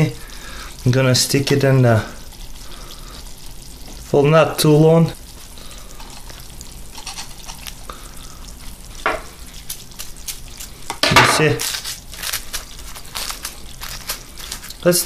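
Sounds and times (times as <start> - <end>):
dry ice fizzing in alcohol: 0.0 - 15.0.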